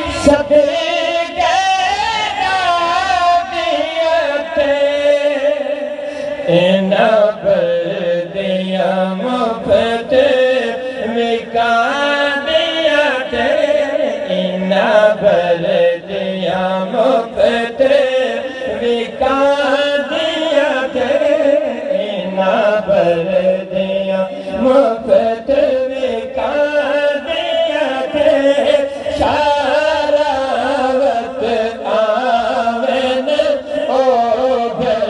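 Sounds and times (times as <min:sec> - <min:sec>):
person chanting a melody: 0:00.0 - 0:35.0.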